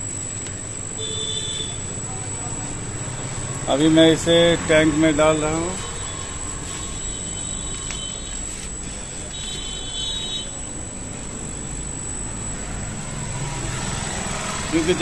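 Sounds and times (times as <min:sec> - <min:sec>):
high-pitched whine: 0:00.0 - 0:15.0
machinery rumble and hum: 0:00.0 - 0:15.0.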